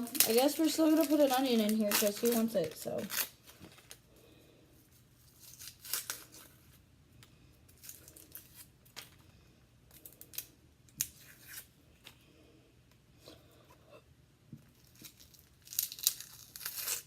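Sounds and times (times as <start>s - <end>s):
onion skin crinkling and tearing: 0.0s - 4.0s, 4.9s - 12.2s, 14.6s - 17.0s.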